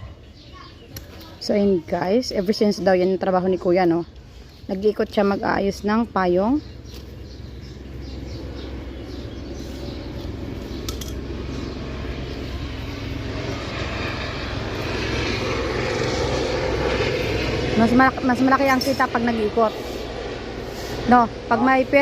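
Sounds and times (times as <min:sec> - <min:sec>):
aircraft engine rumble: 0:00.0 - 0:22.0.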